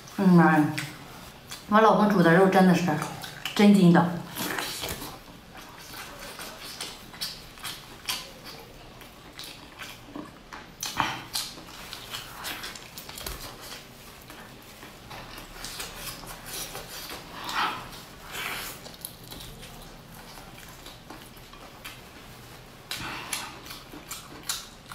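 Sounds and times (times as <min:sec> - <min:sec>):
mouth chewing and smacking: 0:02.9 - 0:03.6, 0:04.3 - 0:24.9
tearing chewy meat: 0:04.3 - 0:24.9.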